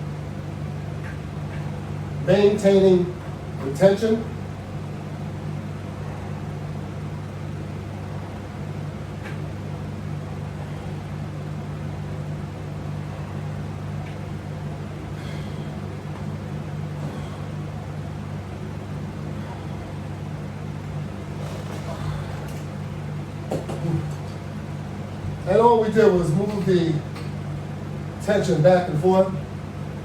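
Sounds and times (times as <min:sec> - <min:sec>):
low droning hum: 0:00.0 - 0:30.0.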